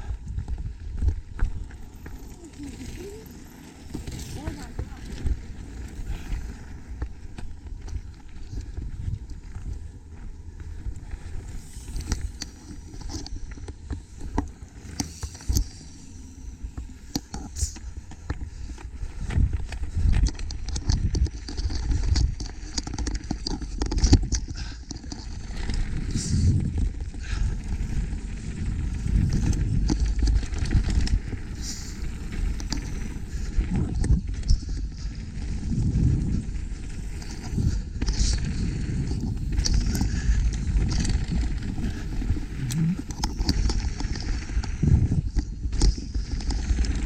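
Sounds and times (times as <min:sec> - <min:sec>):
bike knocking and rattling: 0:00.0 - 0:47.0
wind rumble on microphone: 0:00.0 - 0:47.0.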